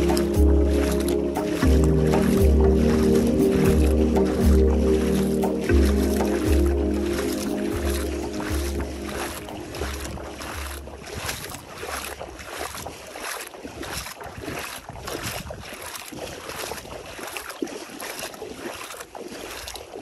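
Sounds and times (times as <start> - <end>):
feet splashing in shallow water: 0.0 - 20.0.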